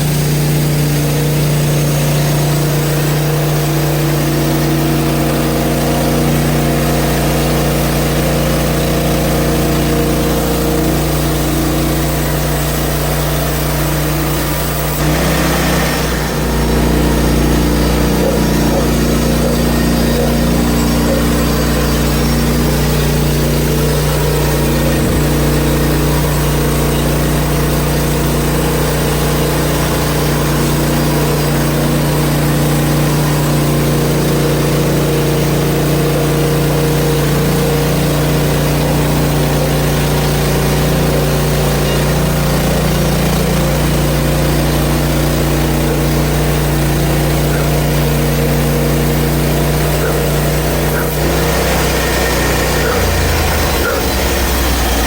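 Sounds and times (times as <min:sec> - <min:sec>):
band saw blade sawing log: 0:00.0 - 0:55.0
gasoline engine running: 0:00.0 - 0:55.0.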